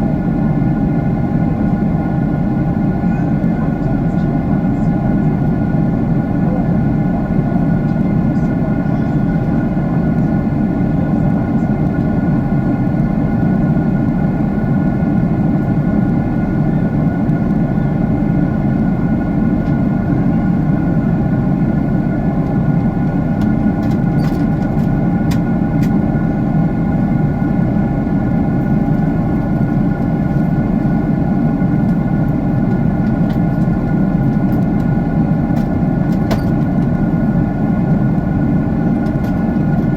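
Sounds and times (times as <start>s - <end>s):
jet cabin engine rush: 0.0s - 39.9s.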